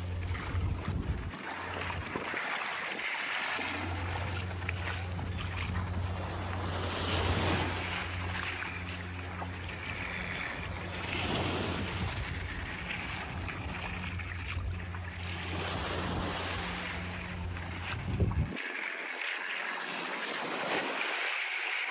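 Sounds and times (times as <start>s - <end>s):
wind on microphone: 0.0s - 9.0s, 9.7s - 18.9s
boat engine humming: 0.0s - 21.9s
small waves washing on sand: 0.0s - 21.9s.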